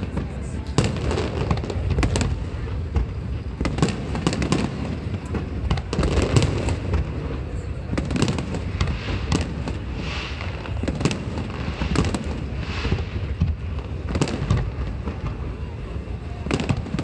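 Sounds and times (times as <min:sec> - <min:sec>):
fireworks bangs and crackling: 0:00.0 - 0:17.0
low rumble of distant explosions: 0:00.0 - 0:17.0.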